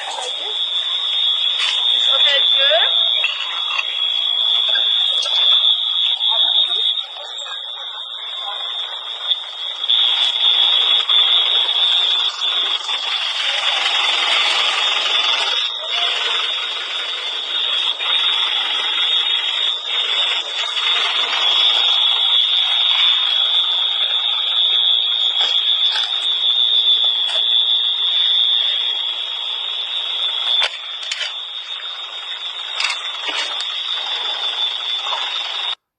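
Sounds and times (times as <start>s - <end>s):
high-pitched alarm tone: 0.0s - 35.8s
noisy background: 0.0s - 35.8s.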